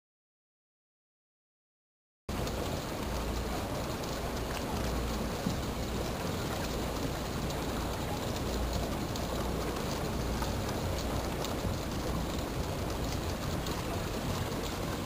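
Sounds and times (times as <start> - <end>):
churned water rushing: 2.3 - 15.0.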